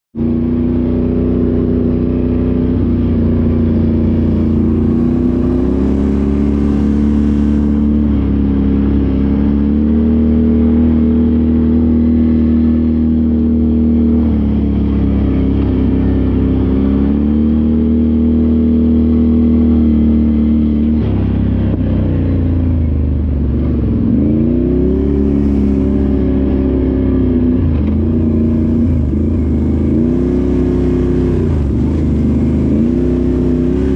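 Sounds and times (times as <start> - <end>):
off-road vehicle engine revving: 0.2 - 33.9.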